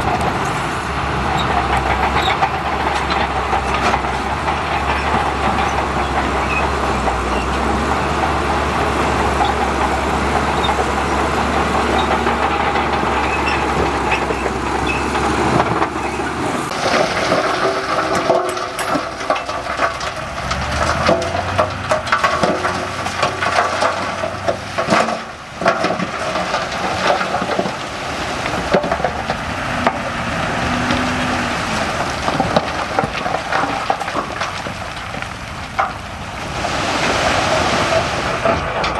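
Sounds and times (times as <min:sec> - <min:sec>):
dense crackling and rattling: 0:00.0 - 0:38.9
heavy diesel machinery engine drone: 0:00.0 - 0:38.9.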